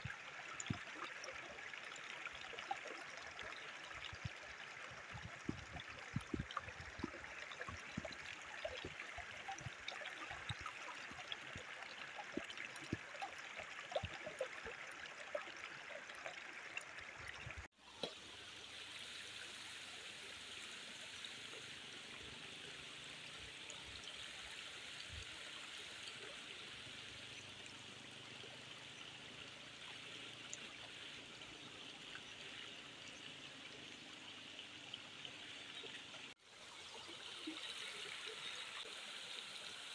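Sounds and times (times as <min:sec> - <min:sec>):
stream water running over rock: 0:00.0 - 0:39.9.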